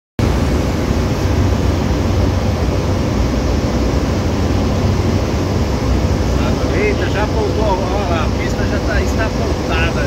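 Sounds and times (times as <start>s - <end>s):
aircraft engine and propeller drone: 0.2s - 10.0s.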